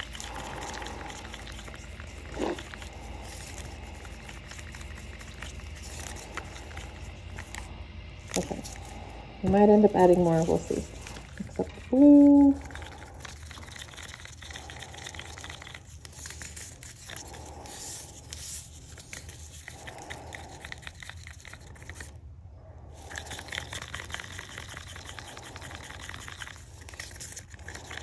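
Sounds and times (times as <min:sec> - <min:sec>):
stir stick scraping plastic cup: 0:00.0 - 0:07.7, 0:08.3 - 0:22.1, 0:23.1 - 0:28.0.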